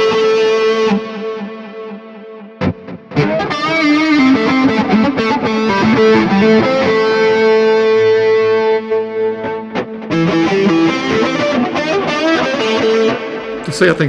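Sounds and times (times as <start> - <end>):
distorted electric guitar lead: 0.0 - 14.0.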